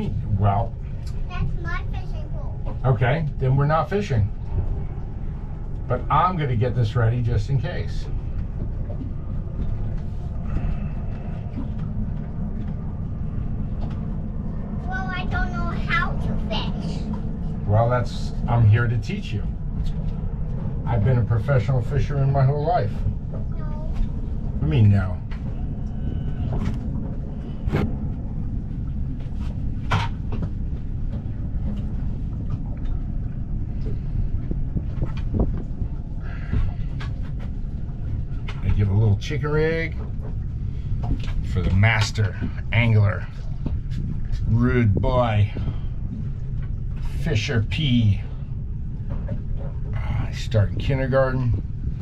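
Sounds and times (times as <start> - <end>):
boat engine rumble: 0.0 - 52.0.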